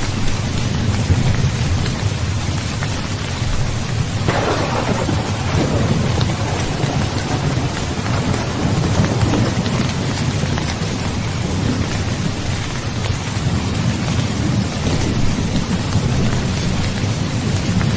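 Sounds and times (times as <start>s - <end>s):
heavy rain pouring: 0.0s - 17.9s
rolling thunder rumble: 0.6s - 17.9s.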